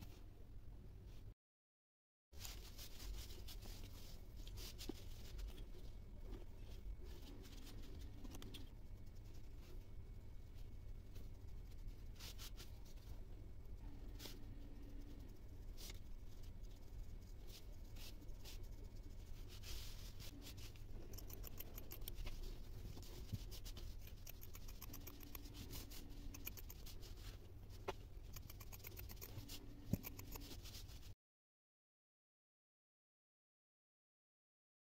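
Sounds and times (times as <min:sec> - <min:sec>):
low steady hum: 0:02.4 - 0:31.2.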